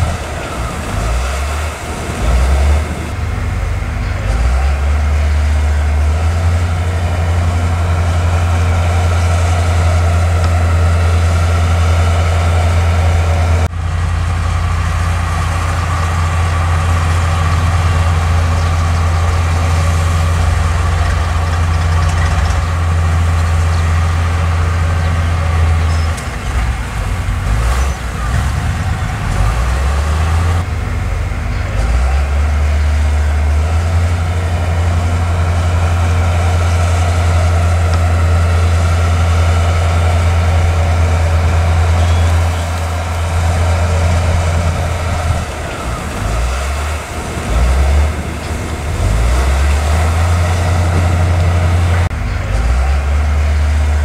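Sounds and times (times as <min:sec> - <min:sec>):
heavy diesel engines humming: 0:00.0 - 0:54.0.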